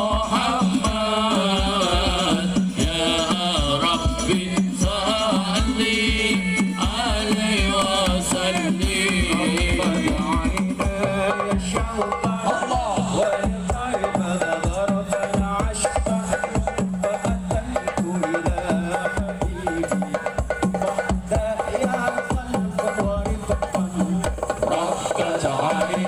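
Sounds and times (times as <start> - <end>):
devotional singing: 0.0 - 26.0
hand drum beat: 0.0 - 26.0.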